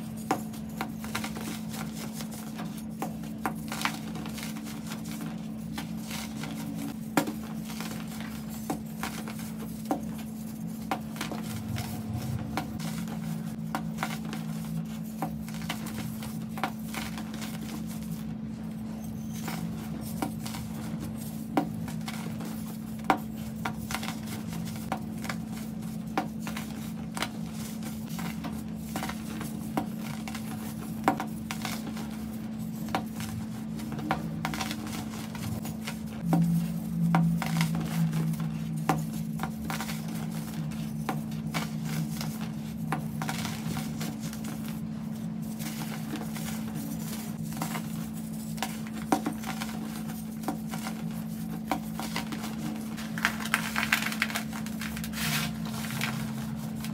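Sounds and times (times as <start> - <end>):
powder clumps crunching: 0.0 - 56.9
steady low hum: 0.0 - 56.9.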